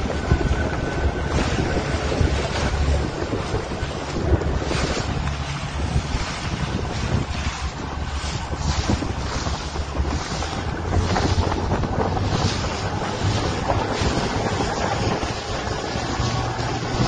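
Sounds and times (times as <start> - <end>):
choppy sea water slapping: 0.0 - 17.0
low rumble: 0.0 - 17.0
wind buffeting the microphone: 0.0 - 17.0.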